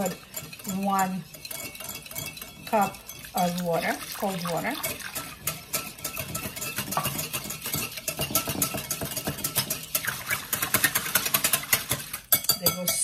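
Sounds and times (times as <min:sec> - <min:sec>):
whisk beating in bowl: 0:00.0 - 0:13.0.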